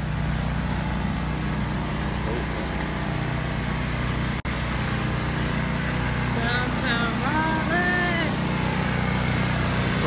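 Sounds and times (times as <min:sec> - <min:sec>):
engine idling: 0:00.0 - 0:10.0
street noise: 0:00.0 - 0:10.0.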